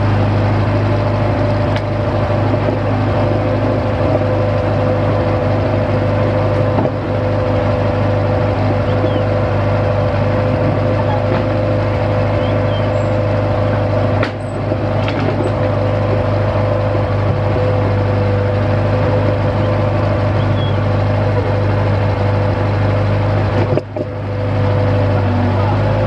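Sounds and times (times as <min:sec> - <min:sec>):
drill rig engine running: 0:00.0 - 0:26.0.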